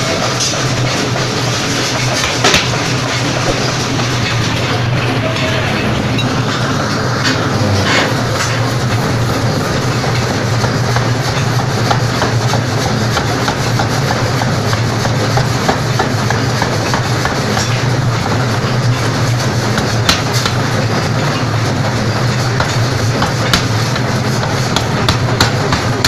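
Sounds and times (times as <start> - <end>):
low machine hum: 0.0 - 26.0
power hammer pounding steel: 0.0 - 26.0.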